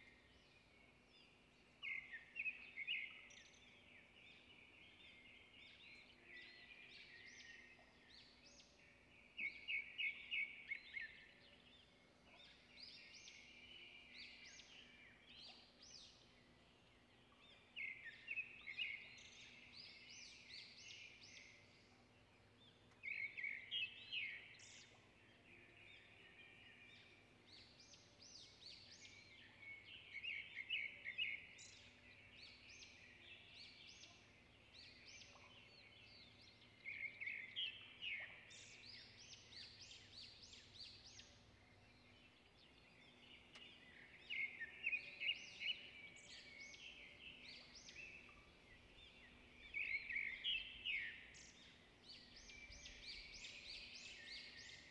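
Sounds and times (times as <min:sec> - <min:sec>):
small birds twittering: 0:00.0 - 0:54.9.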